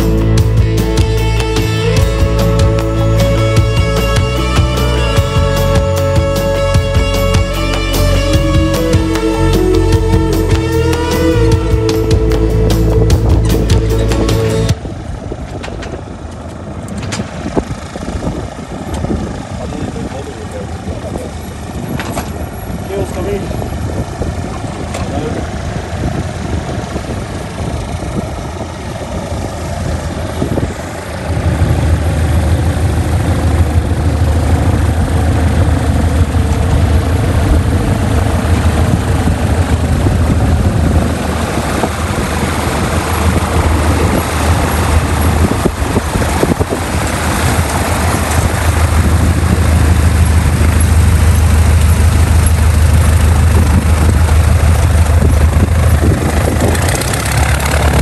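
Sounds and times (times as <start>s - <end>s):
light aircraft propeller engine: 0.0s - 58.0s.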